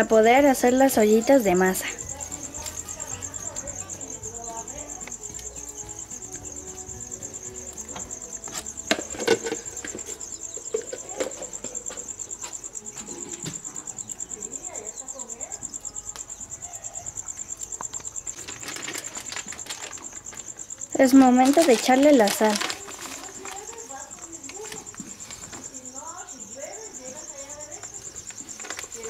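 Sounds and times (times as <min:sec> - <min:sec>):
insect chirping: 0:00.0 - 0:29.0.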